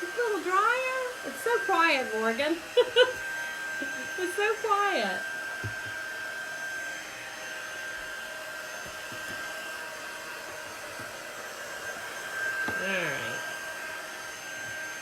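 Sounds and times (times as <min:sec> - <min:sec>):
handheld dryer blowing: 0:00.0 - 0:15.0.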